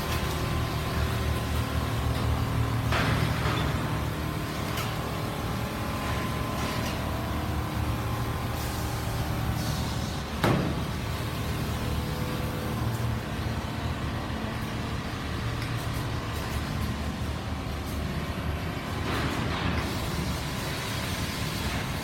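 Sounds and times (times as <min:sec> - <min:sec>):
quilting machines humming: 0:00.0 - 0:22.0.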